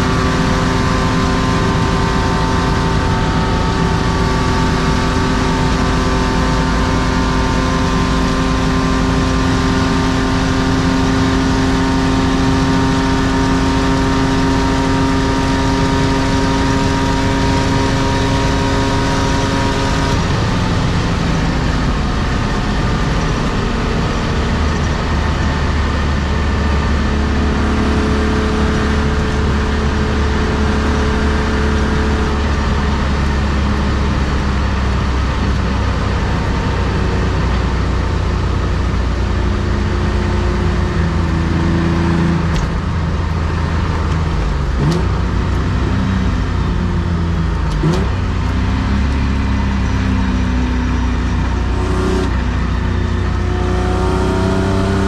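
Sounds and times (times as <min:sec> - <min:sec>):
car engine at steady speed: 0:00.0 - 0:55.0
tyre and road noise: 0:10.7 - 0:55.0.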